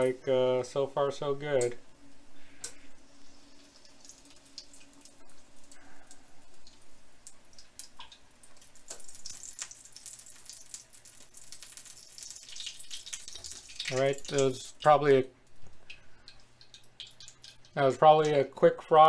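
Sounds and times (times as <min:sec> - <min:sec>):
oil sizzling and crackling in pan: 0:01.2 - 0:17.9.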